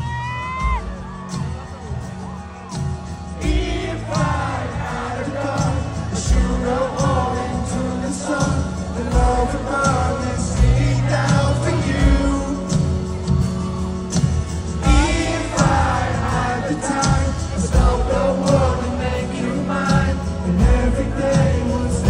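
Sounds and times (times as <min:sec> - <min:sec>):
live rock band playing: 0:00.0 - 0:22.0
man singing: 0:03.4 - 0:14.1, 0:14.7 - 0:22.0.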